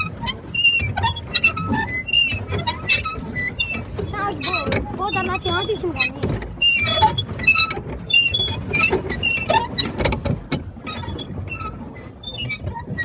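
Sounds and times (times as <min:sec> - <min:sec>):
pedal boat mechanism squeaking: 0:00.0 - 0:13.0.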